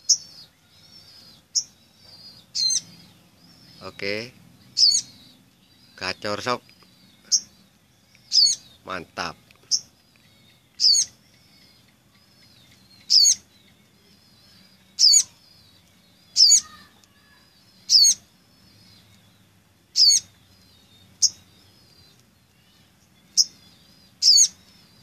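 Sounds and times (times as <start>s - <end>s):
bird sharp high-pitched calls: 0.0s - 25.0s
faint bird twittering: 0.0s - 25.0s.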